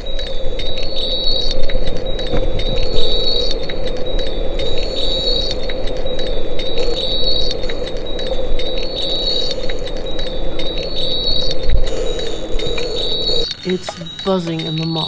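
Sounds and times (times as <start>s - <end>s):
steady buzzing hum: 0.0s - 14.0s
faint ticks: 0.0s - 15.0s.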